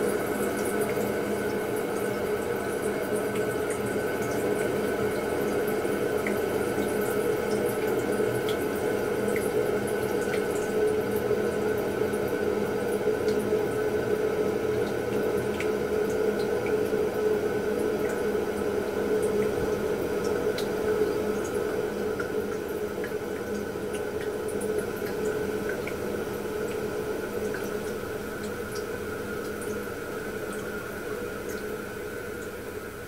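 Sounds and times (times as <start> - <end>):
water drips: 0.0 - 32.7
toilet cistern refilling: 0.0 - 33.0.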